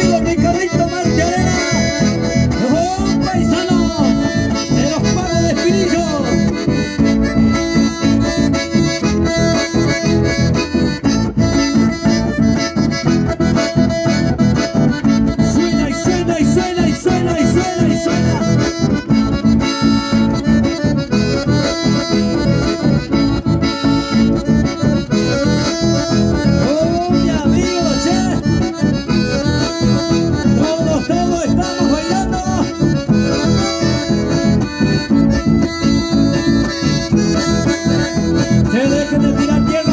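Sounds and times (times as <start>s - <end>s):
acoustic guitars strummed: 0.0s - 39.9s
button accordions playing: 0.0s - 39.9s.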